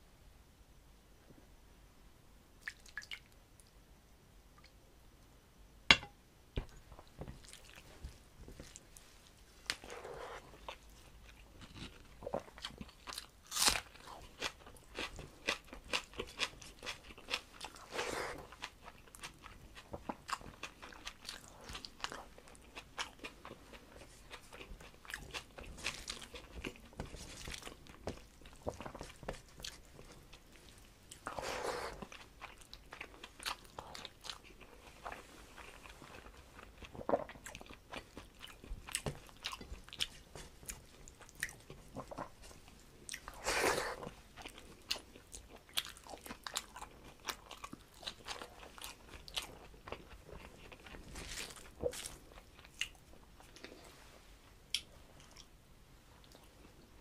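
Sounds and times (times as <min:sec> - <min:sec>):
man chewing food: 0:06.6 - 0:54.1.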